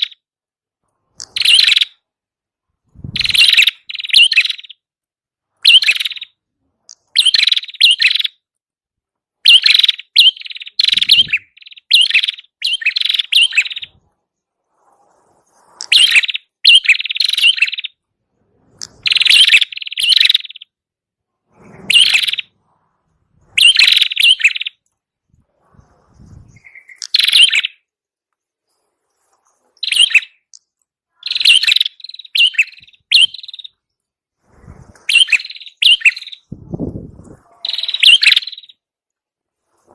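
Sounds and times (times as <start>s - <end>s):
songbird rapid chirping: 0.0s - 0.3s, 0.9s - 8.6s, 9.2s - 39.0s.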